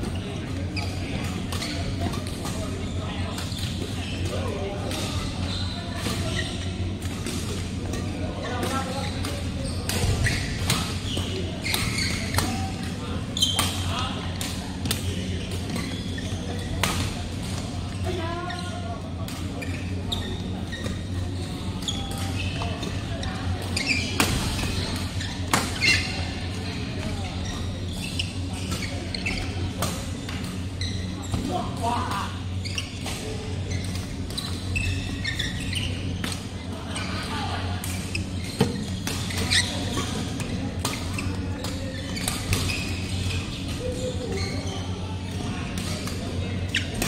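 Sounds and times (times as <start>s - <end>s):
shoes squeaking on court: 0.0s - 47.0s.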